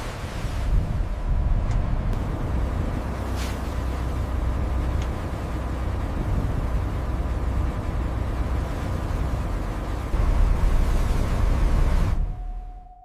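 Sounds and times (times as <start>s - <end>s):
deep steady rumble: 0.0s - 13.0s.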